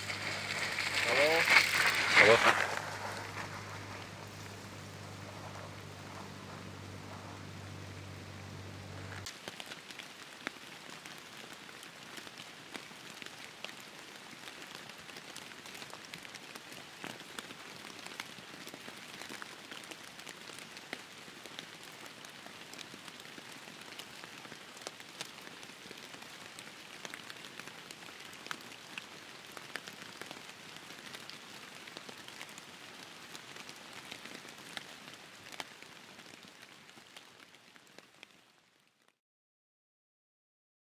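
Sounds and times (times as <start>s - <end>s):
steady rain: 0.0s - 39.2s.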